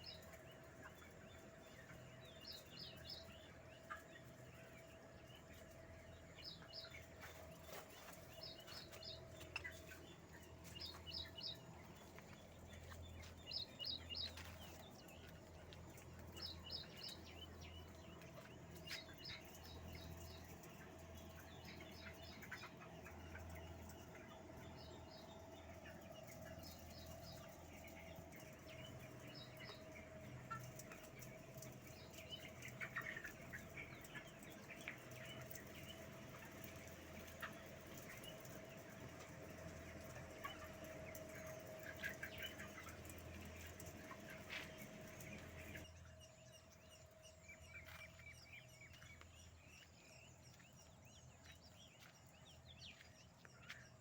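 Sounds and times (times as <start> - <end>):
poultry chirping: 0.0 - 54.0.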